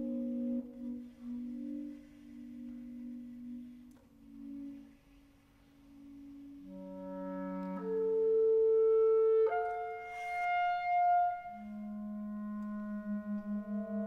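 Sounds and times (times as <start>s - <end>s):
clarinet: 0.0s - 14.0s
saxophone: 0.0s - 14.0s.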